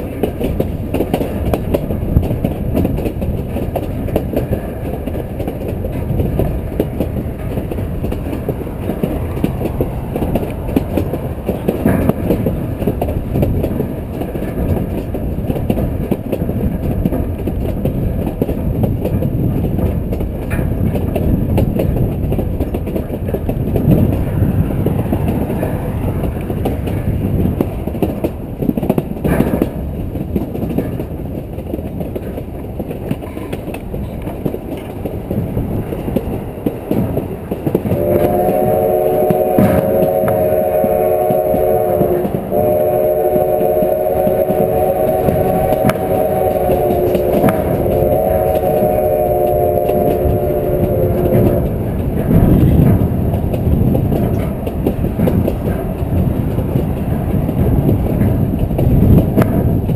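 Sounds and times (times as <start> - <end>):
clicks over rail joints: 0.0 - 59.9
model train wheels rumbling on rails: 0.0 - 59.9.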